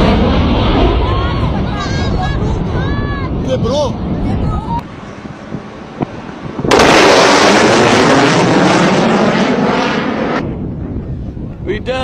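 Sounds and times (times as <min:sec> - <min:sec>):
fighter jet passing overhead: 0:00.0 - 0:11.9.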